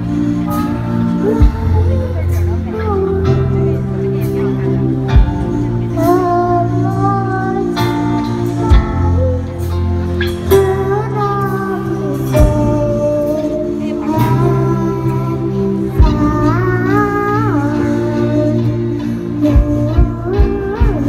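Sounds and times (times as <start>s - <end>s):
girl singing into microphone: 0.1s - 4.4s, 5.1s - 21.0s.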